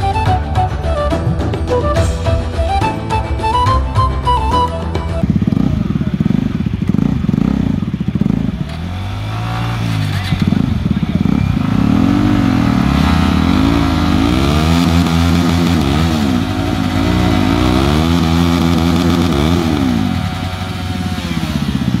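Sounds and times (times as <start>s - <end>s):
motorcycle engines revving: 2.7s - 22.0s.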